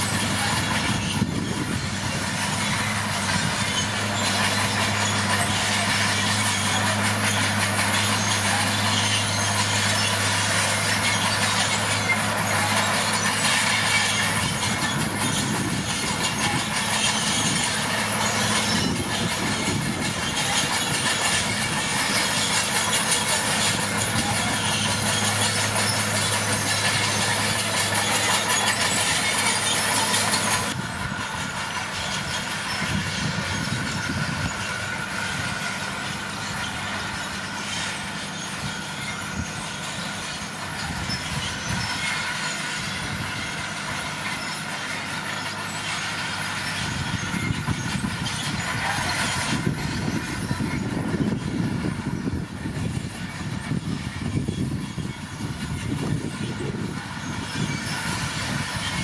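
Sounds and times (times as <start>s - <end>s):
bulldozer diesel engine running: 0.0s - 59.0s
track and machinery clatter: 0.0s - 59.0s.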